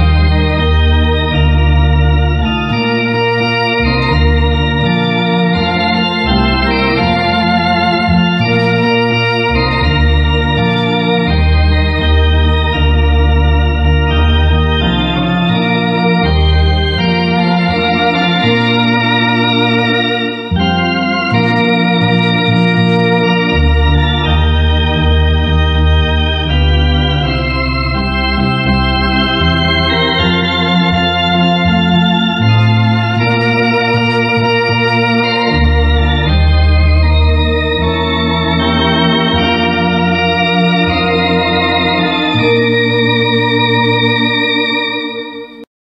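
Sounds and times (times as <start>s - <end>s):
electronic organ playing a hymn: 0.0s - 45.7s.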